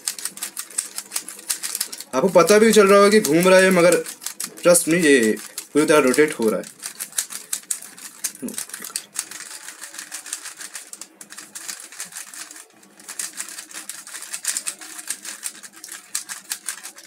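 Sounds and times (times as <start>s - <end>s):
puzzle cube layers clicking: 0.0s - 17.0s.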